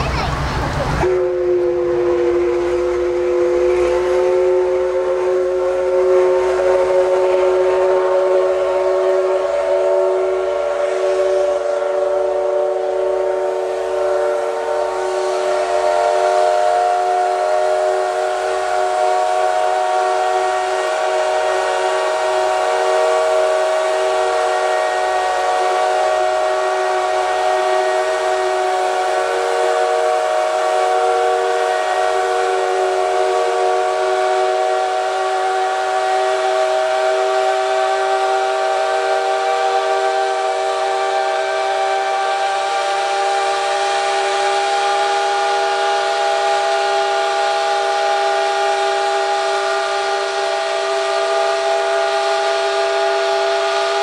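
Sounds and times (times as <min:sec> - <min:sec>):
steam locomotive whistle: 0:00.8 - 0:54.0.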